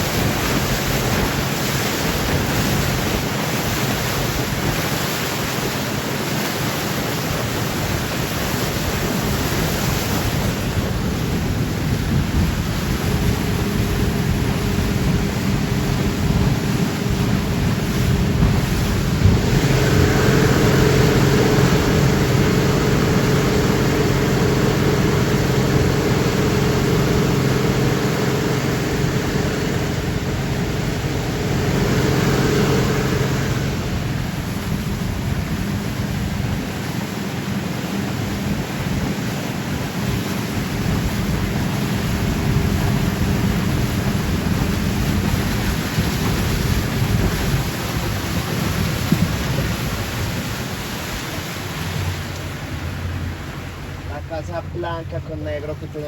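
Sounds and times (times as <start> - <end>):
boat motor humming: 0.0 - 56.0
wind and water rushing: 0.0 - 56.0.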